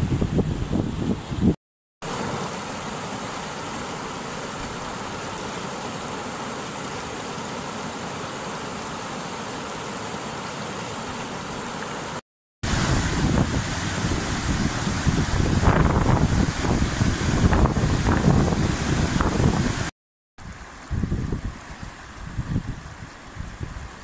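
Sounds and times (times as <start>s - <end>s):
stream rushing over rocks: 2.0s - 24.0s.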